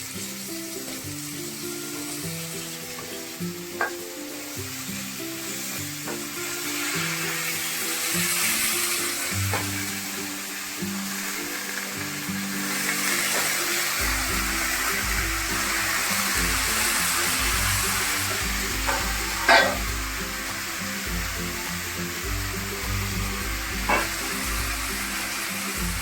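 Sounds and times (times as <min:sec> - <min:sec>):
food sizzling in oil: 0:00.0 - 0:26.0
soft background music: 0:00.0 - 0:26.0.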